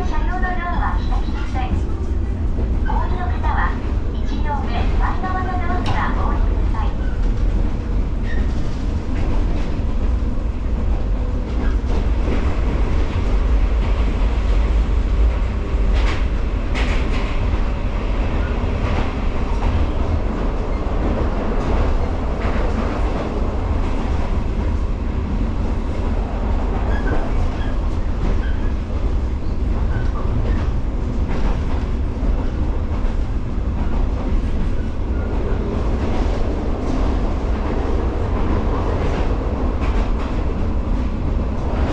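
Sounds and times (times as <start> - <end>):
train wheels rumbling: 0.0 - 41.9
rail-joint clacks: 0.4 - 10.2, 10.8 - 24.8, 25.9 - 41.9.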